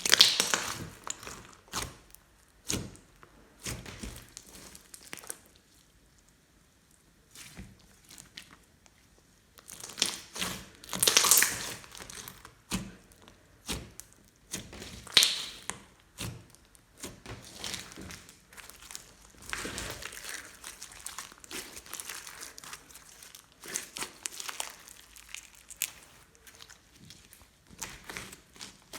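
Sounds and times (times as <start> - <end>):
slime squishing and crackling: 0.0 - 28.9.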